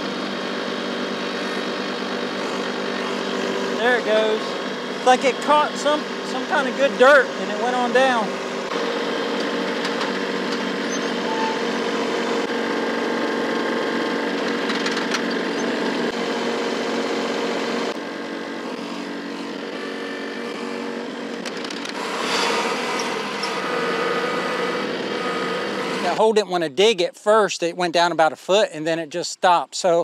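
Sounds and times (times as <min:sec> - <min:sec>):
post hole auger turning: 0:00.0 - 0:26.2
tractor diesel engine running: 0:00.0 - 0:29.3.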